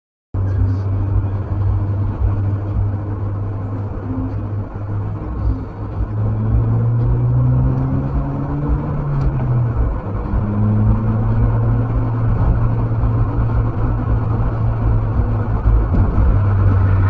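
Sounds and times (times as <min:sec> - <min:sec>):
car engine hum: 0:00.3 - 0:17.0
road noise inside car: 0:00.4 - 0:17.0.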